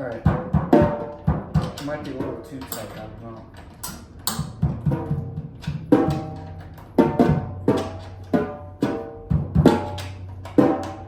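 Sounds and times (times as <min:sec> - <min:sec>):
drum head struck by hand: 0:00.2 - 0:03.0, 0:03.8 - 0:11.0.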